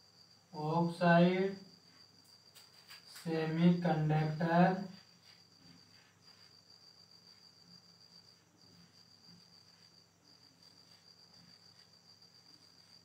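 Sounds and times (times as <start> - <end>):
faint cricket trilling: 0.0 - 13.0.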